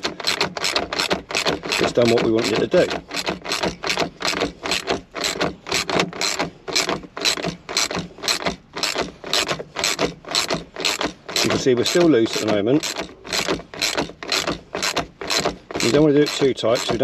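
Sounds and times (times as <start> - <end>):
socket ratchet clicking: 0.0 - 17.0.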